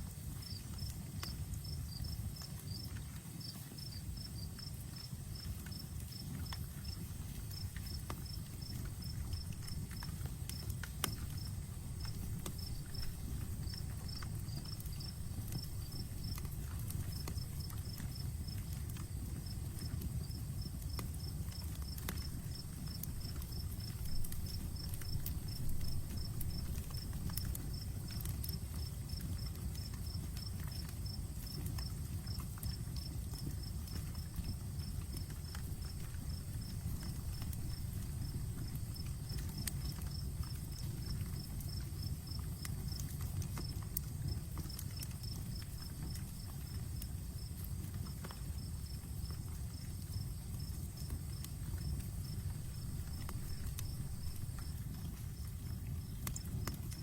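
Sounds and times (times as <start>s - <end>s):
campfire crackling and popping: 0.0s - 57.0s
cricket chirping: 0.1s - 57.0s.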